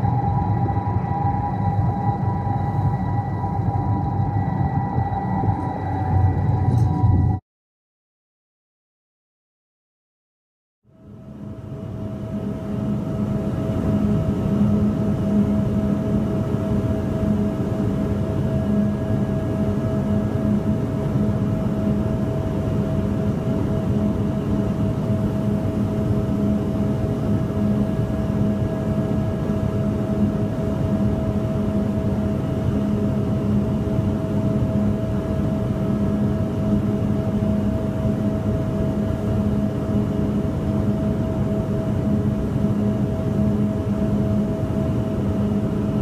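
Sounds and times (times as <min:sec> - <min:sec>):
low machine drone: 0:00.0 - 0:07.4, 0:10.9 - 0:46.0.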